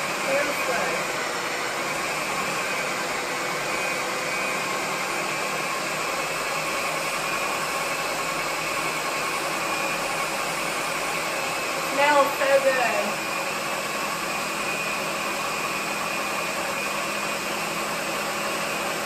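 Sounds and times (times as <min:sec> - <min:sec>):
blender motor running: 0:00.0 - 0:19.0.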